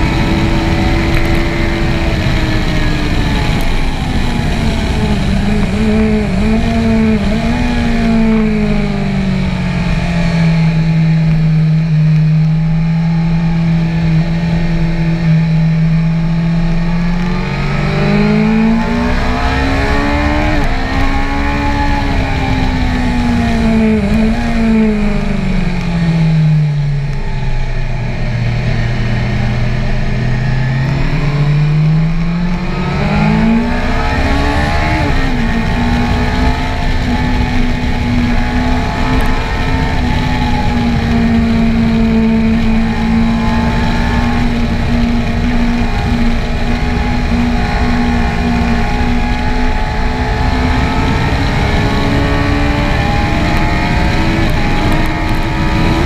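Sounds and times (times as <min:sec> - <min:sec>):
motorcycle engine on track: 0:00.0 - 0:56.0
wind rush on microphone: 0:00.0 - 0:56.0.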